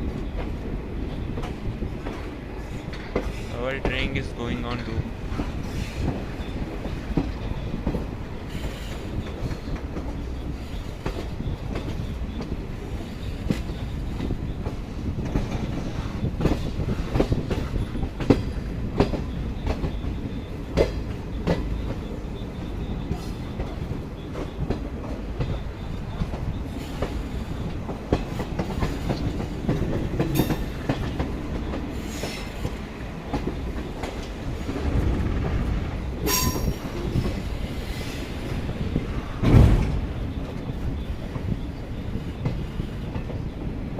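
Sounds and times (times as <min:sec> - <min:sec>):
train rumble: 0:00.0 - 0:43.9
train wheels clicking over rail joints: 0:00.0 - 0:43.9.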